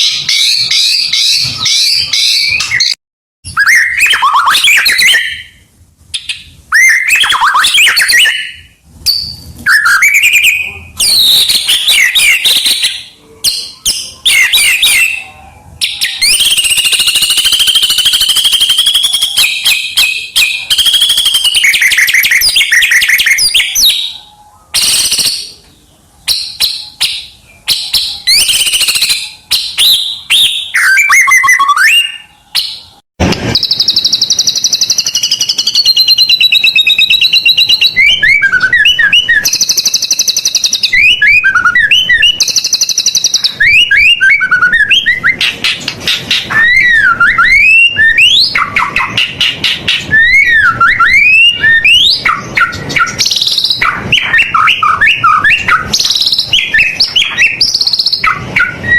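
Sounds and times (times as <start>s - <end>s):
bird singing whistles and warbles: 0.0s - 58.9s.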